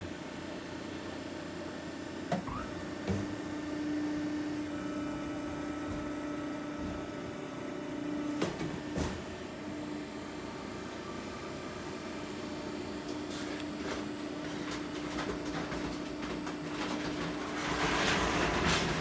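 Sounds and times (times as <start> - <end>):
hydraulic unit hum: 2.3 - 19.0.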